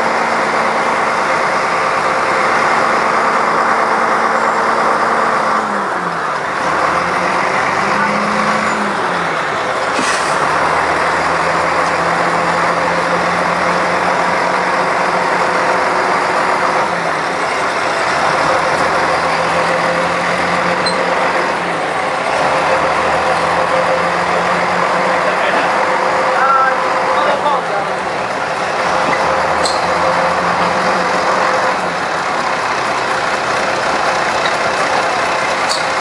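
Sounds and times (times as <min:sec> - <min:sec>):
diesel railcar engine: 0:00.0 - 0:36.0
rumble of train travel: 0:00.0 - 0:36.0.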